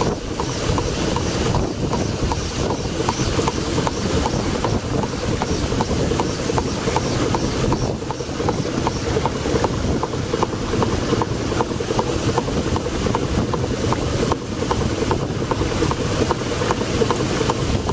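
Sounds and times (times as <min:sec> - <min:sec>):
steam engine running: 0:00.0 - 0:17.9.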